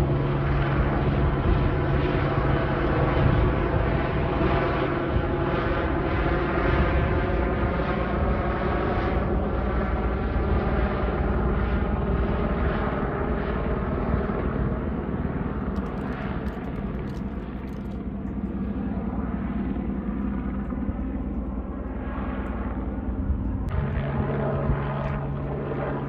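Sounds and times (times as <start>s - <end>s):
helicopter rotor and turbine drone: 0.0s - 26.0s.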